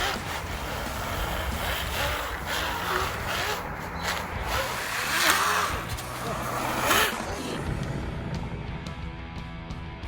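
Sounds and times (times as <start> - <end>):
electric motor whining: 0.0 - 8.2
steady rushing noise: 0.0 - 9.3.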